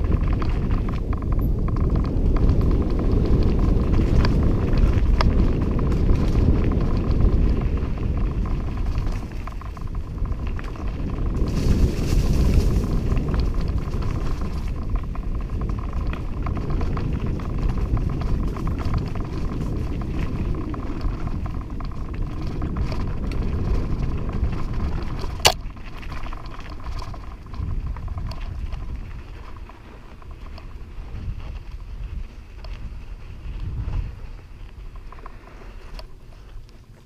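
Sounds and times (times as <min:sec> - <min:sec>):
bike rattling: 0:00.0 - 0:37.0
bike tyres rumbling on dirt: 0:00.0 - 0:37.0.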